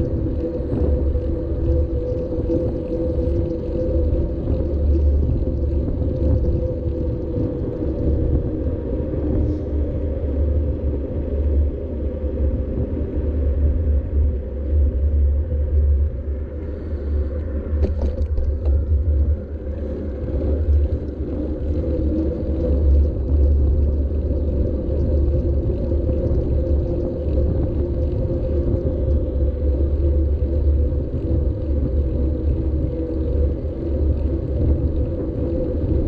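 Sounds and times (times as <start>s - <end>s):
wind and road vibration rumble: 0.0s - 36.0s.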